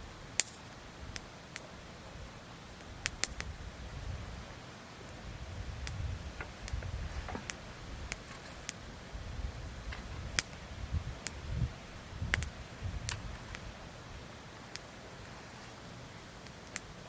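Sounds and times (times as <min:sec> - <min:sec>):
wood fire crackling: 0:00.0 - 0:17.0
low uneven rumble: 0:01.8 - 0:16.4.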